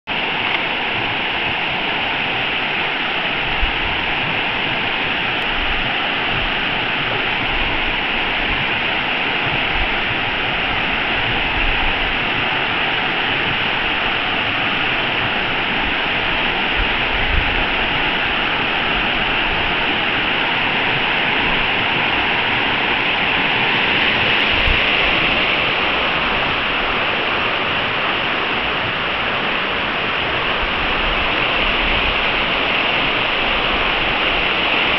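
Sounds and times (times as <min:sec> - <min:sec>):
river water rushing over rocks: 0:00.1 - 0:34.9.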